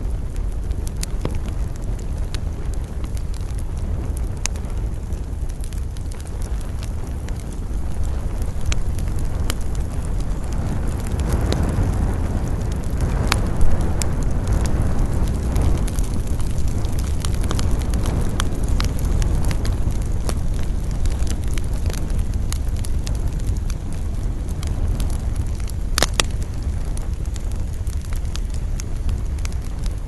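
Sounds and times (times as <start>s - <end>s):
campfire crackling: 0.0s - 30.0s
low rumble of wind: 0.0s - 30.0s.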